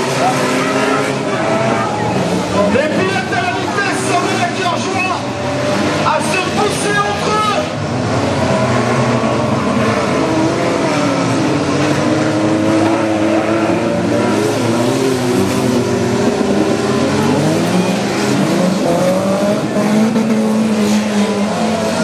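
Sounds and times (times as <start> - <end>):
small race-car engines revving: 0.0 - 22.0.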